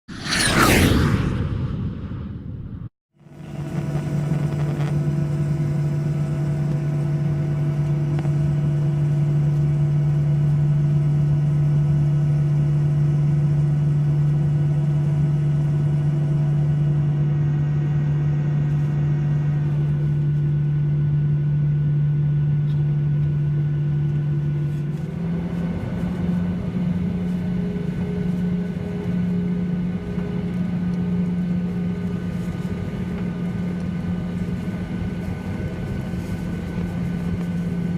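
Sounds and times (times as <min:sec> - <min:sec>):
jet engines heard in cabin: 0:00.1 - 0:37.9.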